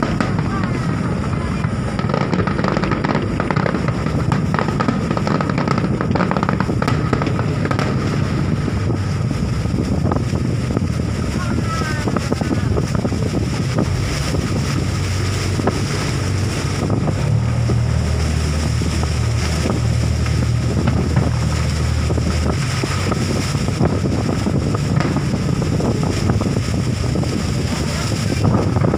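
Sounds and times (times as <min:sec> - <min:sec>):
boat engine running: 0:00.0 - 0:28.9
distant fireworks thumps: 0:00.0 - 0:28.9
wind buffeting microphone: 0:00.0 - 0:28.9.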